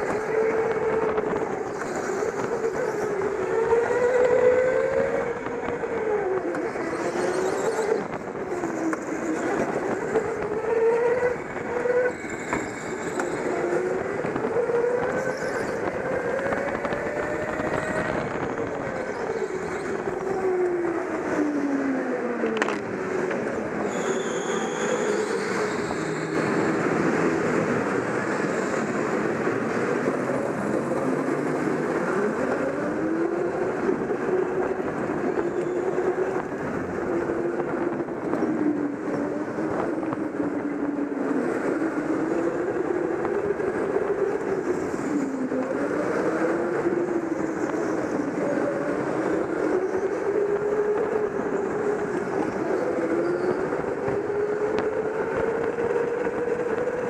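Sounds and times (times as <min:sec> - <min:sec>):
go-kart motor running hard: 0:00.0 - 0:57.0.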